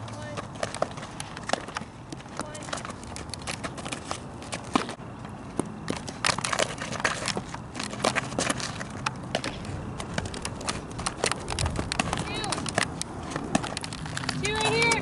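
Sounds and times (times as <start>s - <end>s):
ball clicks and scuffs on dirt: 0.0s - 15.0s.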